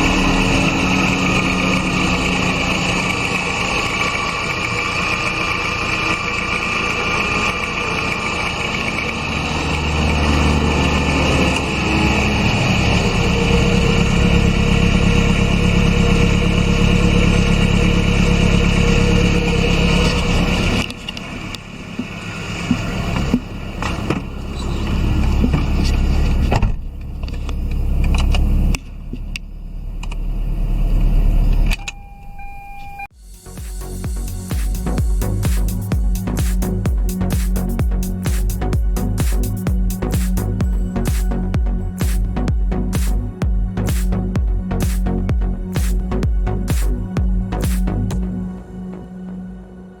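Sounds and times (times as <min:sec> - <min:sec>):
car engine running and revving: 0:00.0 - 0:31.8, 0:33.1 - 0:50.0.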